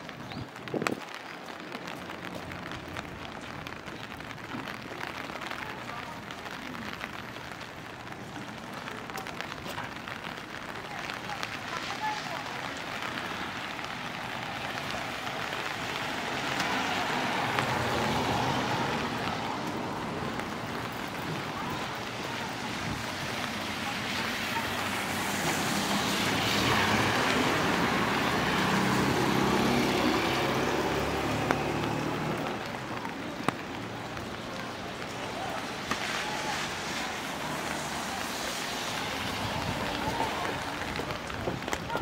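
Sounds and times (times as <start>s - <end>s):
tyre hiss on wet street: 0.0s - 42.0s.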